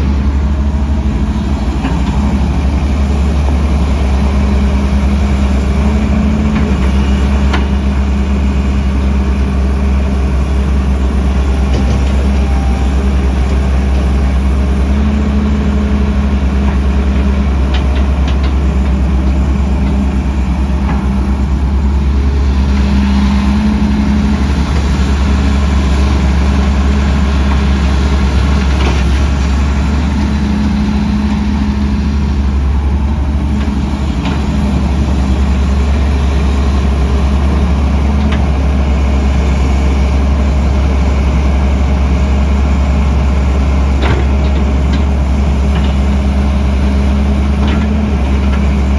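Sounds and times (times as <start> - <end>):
diesel machinery engine rumble: 0.0 - 48.9.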